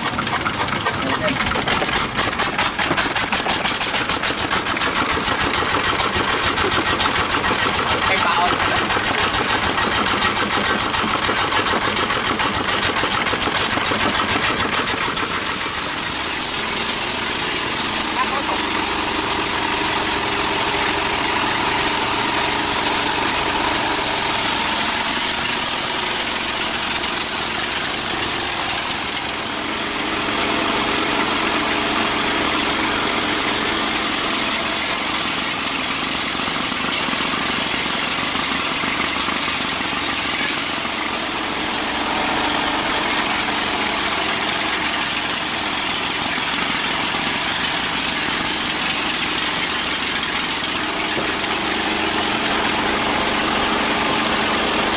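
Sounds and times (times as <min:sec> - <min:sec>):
sawmill machinery running: 0:00.0 - 0:54.9.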